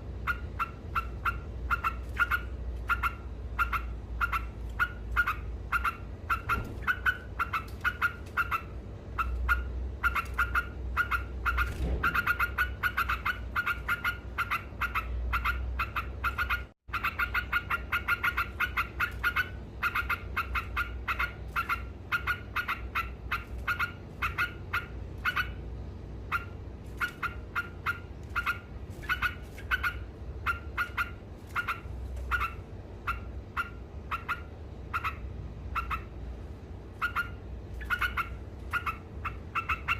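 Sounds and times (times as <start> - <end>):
bird chattering: 0.0 - 36.2, 36.8 - 39.9.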